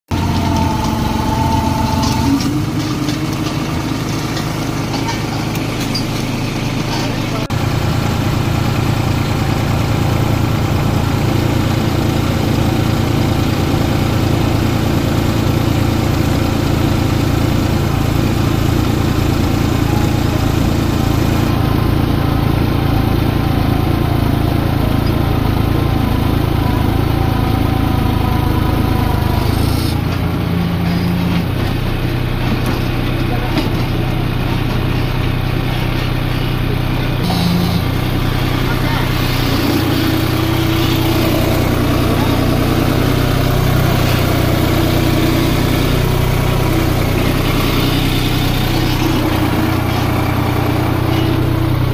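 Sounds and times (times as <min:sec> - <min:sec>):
tractor engine under load: 0:00.1 - 0:51.9.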